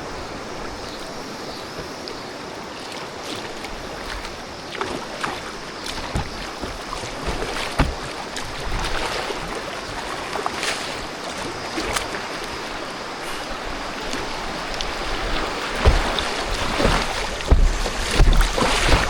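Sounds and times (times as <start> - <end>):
running river water: 0.0 - 19.0
kayak splashes and knocks: 0.2 - 19.0.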